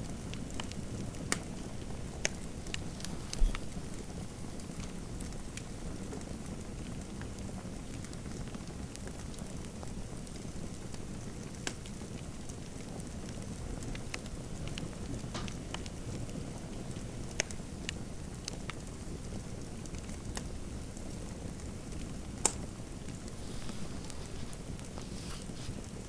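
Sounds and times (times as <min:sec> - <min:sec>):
fireplace crackling: 0:00.0 - 0:26.0.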